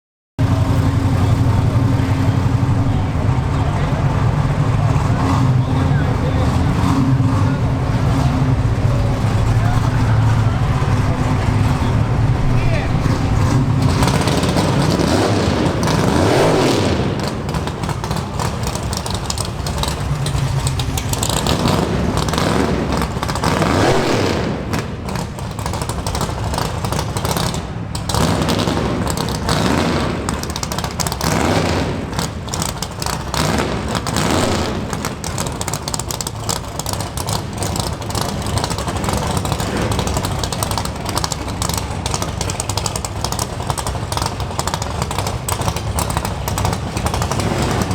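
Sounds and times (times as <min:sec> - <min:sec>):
car engines rumbling and revving: 0:00.4 - 0:47.9.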